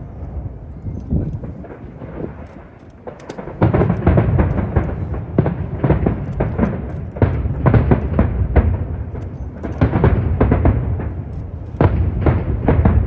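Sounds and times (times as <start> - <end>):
wind rumble on microphone: 0.0 - 13.0
fireworks exploding: 0.2 - 13.0.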